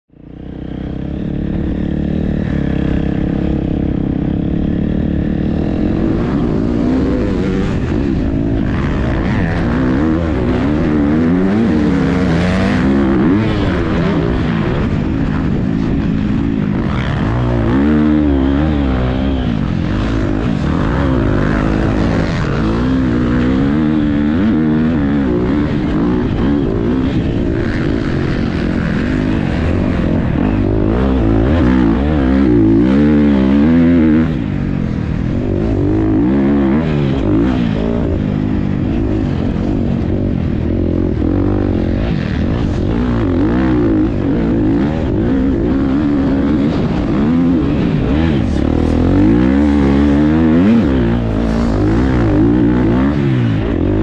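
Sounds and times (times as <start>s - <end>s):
motocross bike engine revving: 0.1s - 54.0s.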